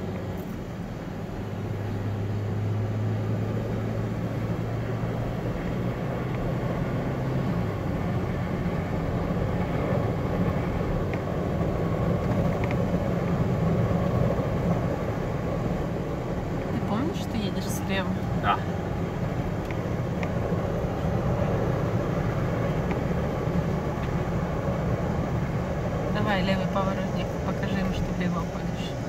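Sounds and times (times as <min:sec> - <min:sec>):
tyre and road noise: 0:00.0 - 0:29.0
vehicle engine drone: 0:00.0 - 0:29.0.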